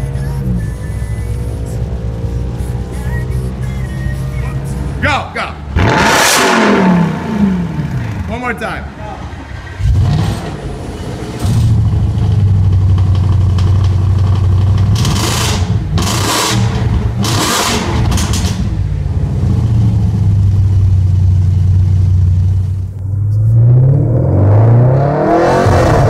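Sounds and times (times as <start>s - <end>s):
car engine starting and idling: 0.0s - 26.0s
engine throttle blips: 0.0s - 26.0s.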